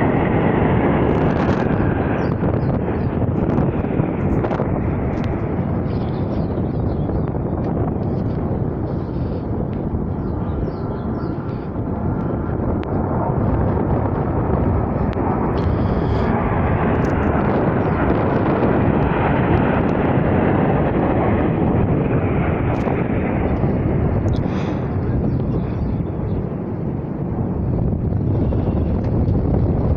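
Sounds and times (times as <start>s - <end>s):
military aircraft engine roar: 0.0s - 29.9s.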